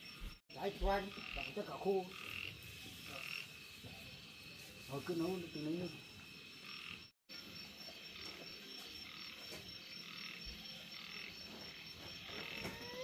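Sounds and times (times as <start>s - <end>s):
frogs croaking: 0.0s - 4.5s, 5.2s - 13.0s.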